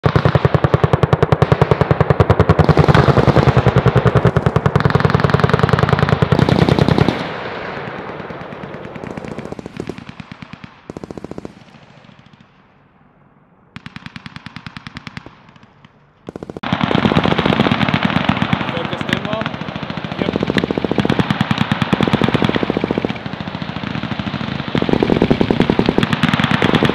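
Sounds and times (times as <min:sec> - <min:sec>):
rapid automatic gunfire: 0:00.0 - 0:12.5, 0:13.8 - 0:26.9.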